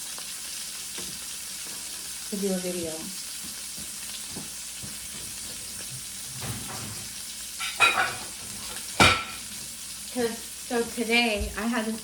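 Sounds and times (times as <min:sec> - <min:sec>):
steaks sizzling in a frying pan: 0:00.0 - 0:12.0.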